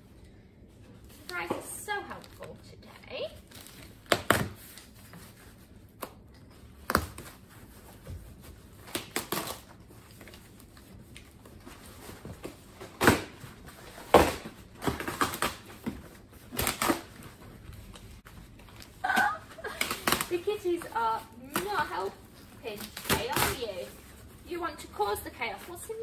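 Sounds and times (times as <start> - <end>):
packaging and cardboard crinkling: 0.6 - 26.0.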